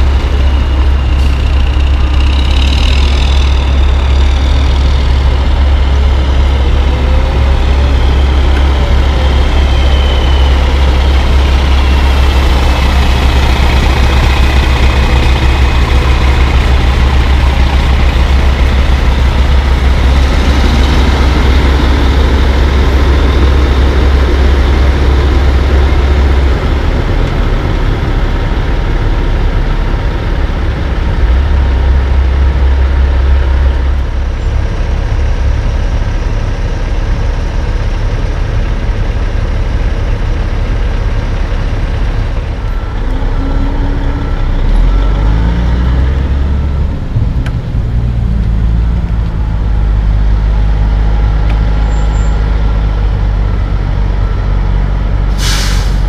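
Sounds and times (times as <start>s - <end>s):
diesel truck engines idling: 0.0s - 56.0s.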